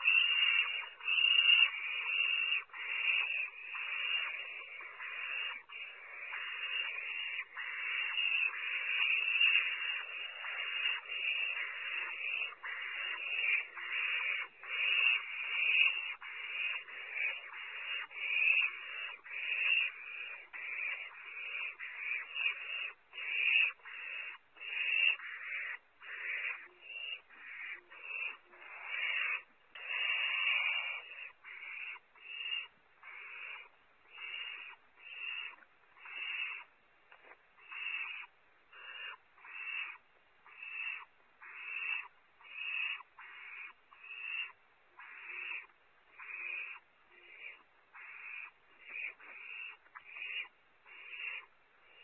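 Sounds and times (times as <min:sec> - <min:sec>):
owl chicks hissing calls: 0:00.0 - 0:52.0.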